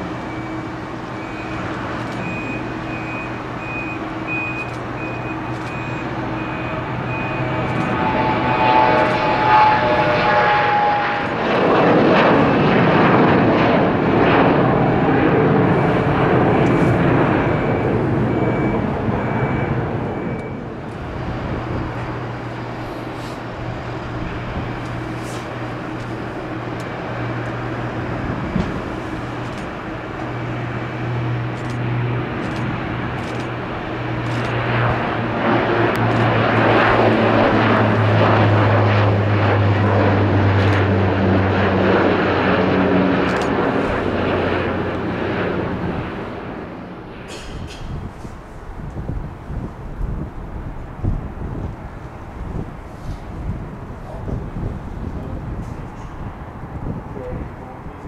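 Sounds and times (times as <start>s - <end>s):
aircraft engines rushing: 0.0s - 58.0s.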